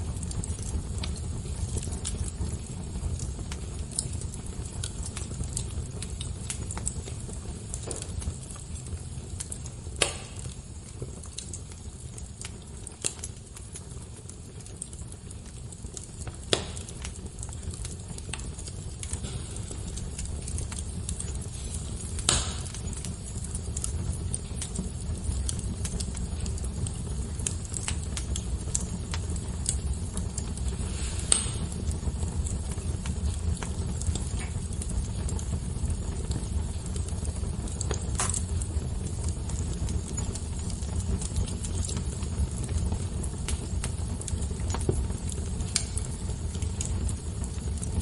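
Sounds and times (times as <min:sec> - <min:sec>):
fire crackling: 0:00.0 - 0:48.0.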